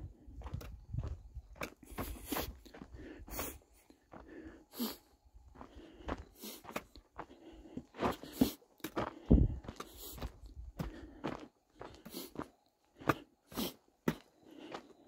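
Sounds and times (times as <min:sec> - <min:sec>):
footsteps on gravel trail: 0:00.0 - 0:15.0.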